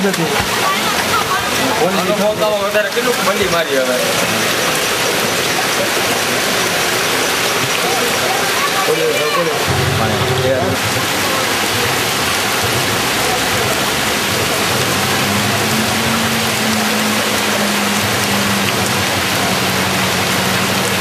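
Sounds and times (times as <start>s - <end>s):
heavy rain on standing water: 0.0s - 21.0s.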